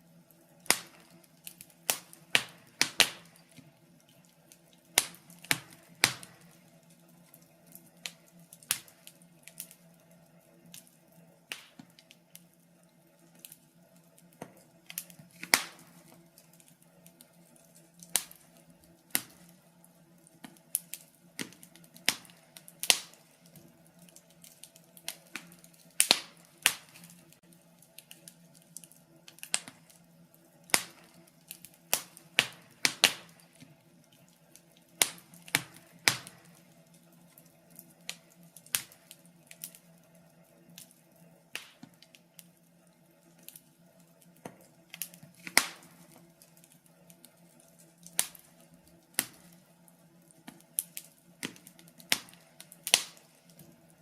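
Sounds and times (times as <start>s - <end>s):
faint steady hum: 0.0s - 54.0s
wood fire crackling and popping: 0.0s - 54.0s.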